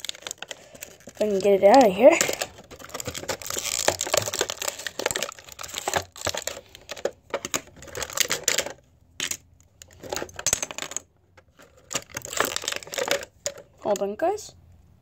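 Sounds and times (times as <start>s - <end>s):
plastic toy parts rustling and clicking: 0.0s - 14.4s.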